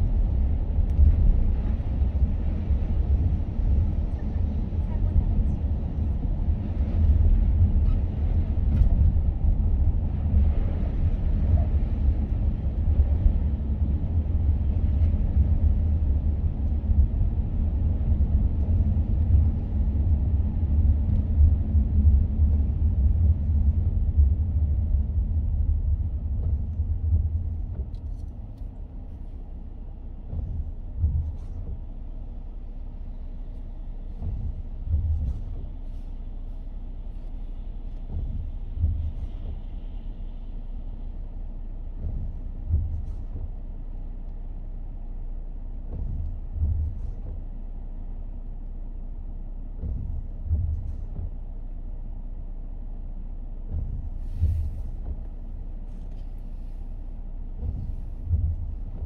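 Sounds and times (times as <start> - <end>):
low thumps: 0.0 - 48.6, 49.5 - 52.4, 53.5 - 59.0
road and tyre rumble: 0.0 - 59.0.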